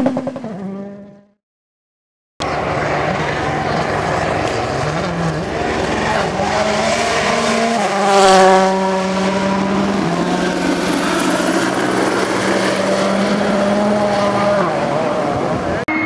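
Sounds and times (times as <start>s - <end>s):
gravel and tyre noise: 2.4s - 16.0s
rally car engine revving: 2.4s - 16.0s.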